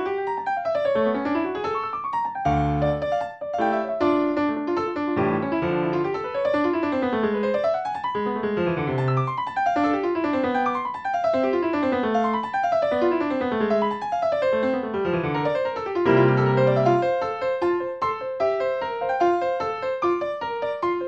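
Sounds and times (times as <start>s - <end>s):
classical piano music: 0.0s - 21.0s.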